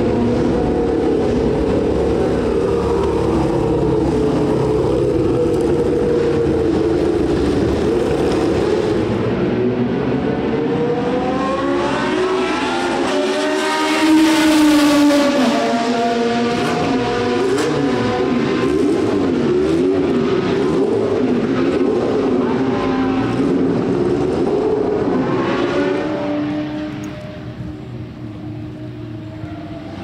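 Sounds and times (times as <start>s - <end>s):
racing car engine passing: 0.0s - 27.8s.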